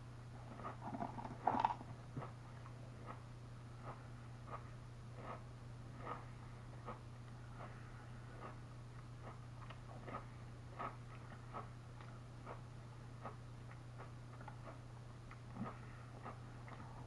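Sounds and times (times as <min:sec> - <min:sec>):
steady low hum: 0:00.0 - 0:17.0
chewing potato crisps: 0:00.5 - 0:03.2, 0:03.8 - 0:17.0.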